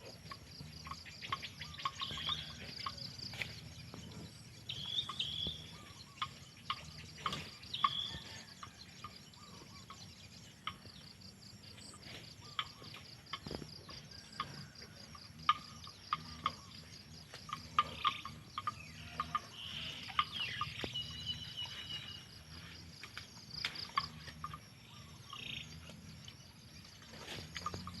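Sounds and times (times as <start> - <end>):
insects trilling: 0.0 - 28.0
bird chirps: 0.3 - 28.0.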